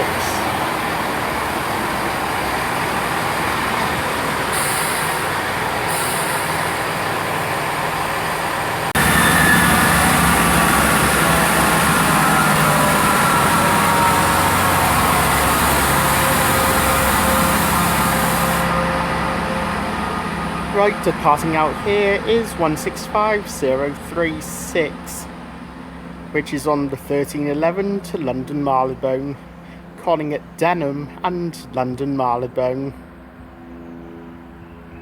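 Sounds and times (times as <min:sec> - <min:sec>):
train diesel engines running: 0:00.0 - 0:33.3.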